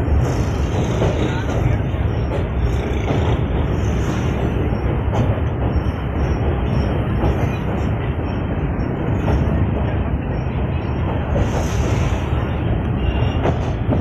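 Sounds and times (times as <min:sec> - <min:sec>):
train rumbling over a bridge: 0:00.0 - 0:14.0.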